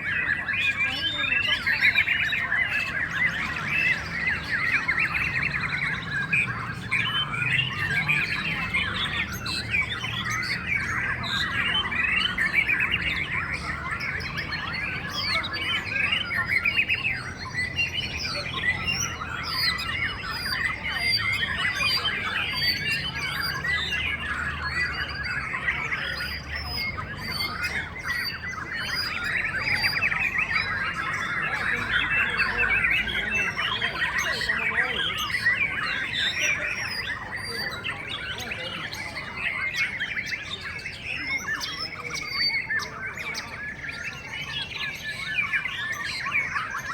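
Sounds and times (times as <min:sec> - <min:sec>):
chorus of songbirds singing: 0:00.0 - 0:46.9.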